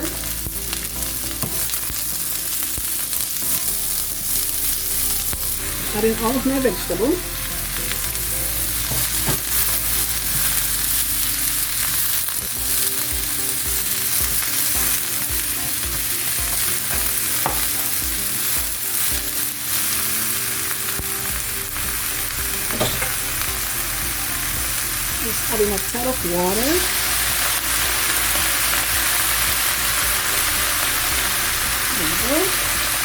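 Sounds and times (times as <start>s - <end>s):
vegetables sizzling in a wok: 0.0s - 33.0s.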